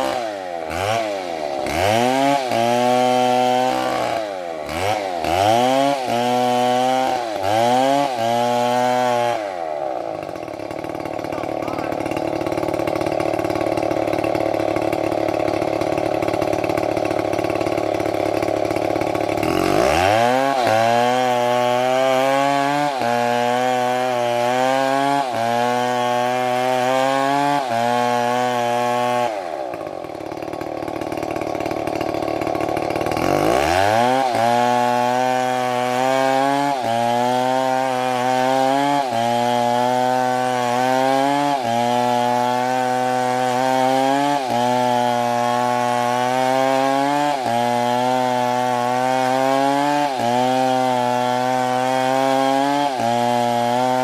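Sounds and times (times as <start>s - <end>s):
chainsaw engine revving: 0.0s - 54.0s.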